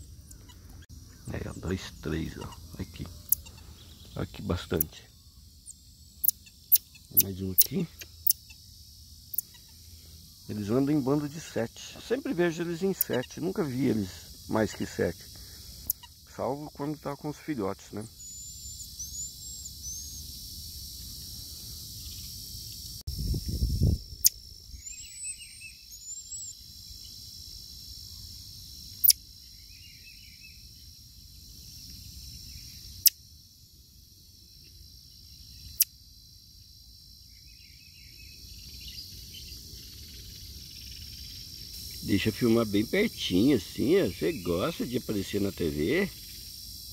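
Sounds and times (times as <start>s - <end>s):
high insect drone: 0.0s - 46.9s.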